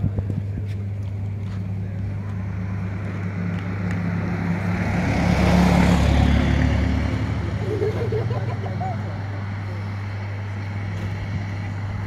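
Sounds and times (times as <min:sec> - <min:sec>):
low engine hum: 0:00.0 - 0:12.0
car passing: 0:01.6 - 0:12.0.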